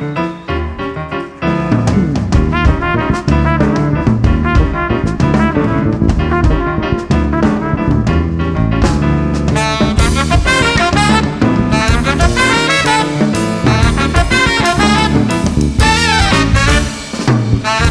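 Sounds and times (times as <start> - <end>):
jazz band playing swing: 0.0 - 17.9
soft piano: 0.0 - 17.9.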